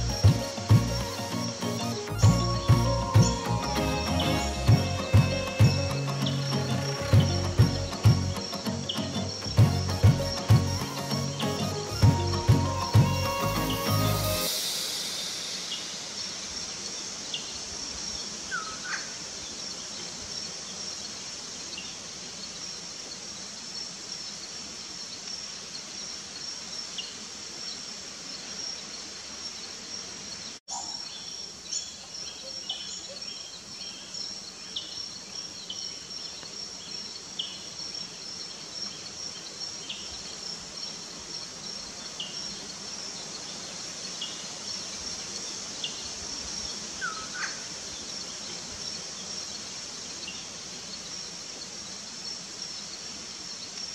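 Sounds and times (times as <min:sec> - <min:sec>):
insect drone: 0:00.0 - 0:31.8, 0:34.0 - 0:53.9.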